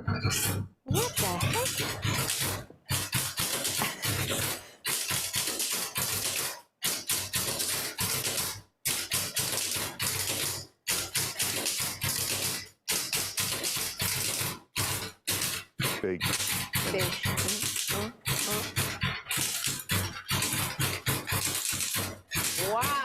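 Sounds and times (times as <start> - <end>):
typewriter keystrokes clattering: 0.9 - 23.0.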